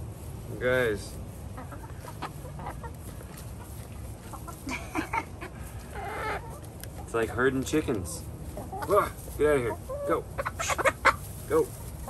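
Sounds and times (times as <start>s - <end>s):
hens clucking: 0.1s - 12.0s.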